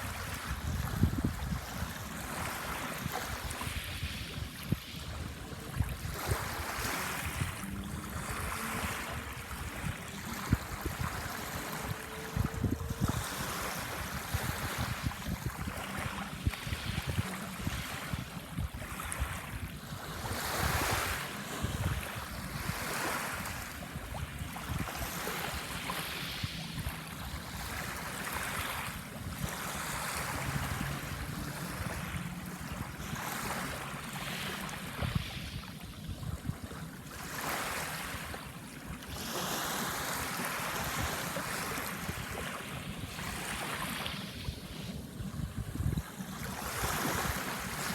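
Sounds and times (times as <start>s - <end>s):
small waves breaking on shore: 0.0s - 47.9s.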